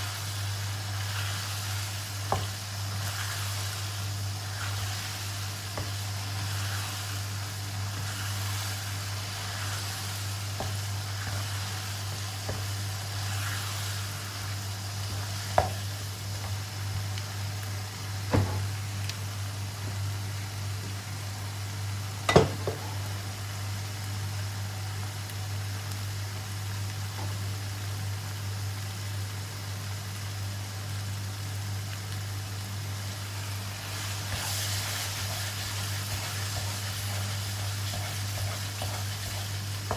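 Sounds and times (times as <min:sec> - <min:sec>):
chili paste sizzling in a wok: 0:00.0 - 0:39.9.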